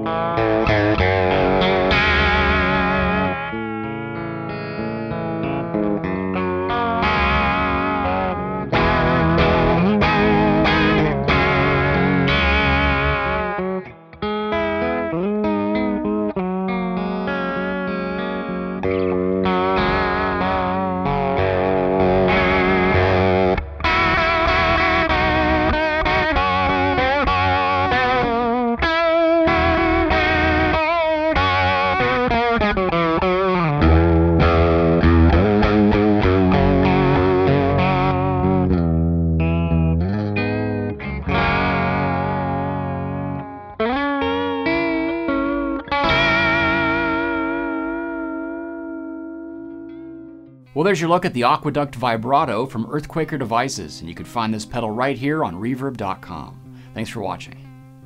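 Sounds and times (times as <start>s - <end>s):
electric guitar with vibrato: 0.0s - 58.0s.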